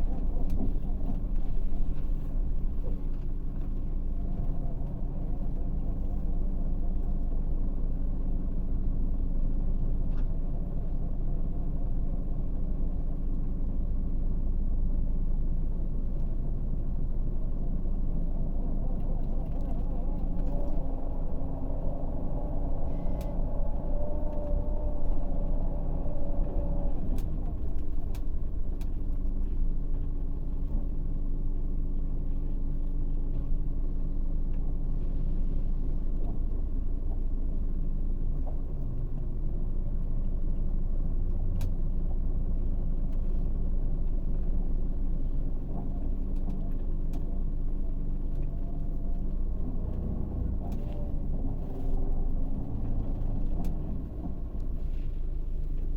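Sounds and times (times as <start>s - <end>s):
bus engine running: 0.0s - 55.9s.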